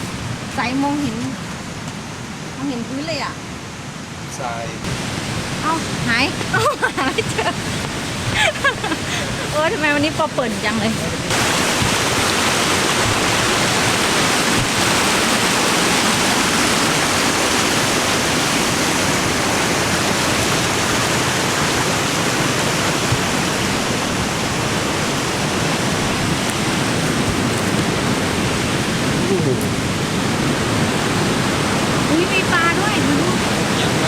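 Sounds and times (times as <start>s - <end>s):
waterfall roaring over rocks: 0.0s - 34.0s.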